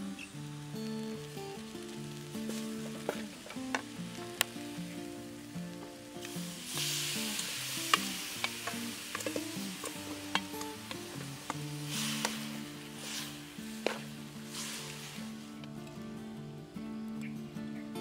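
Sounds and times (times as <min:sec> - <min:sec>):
food sizzling in a wok: 0:00.0 - 0:16.0
soft background music: 0:00.0 - 0:18.0.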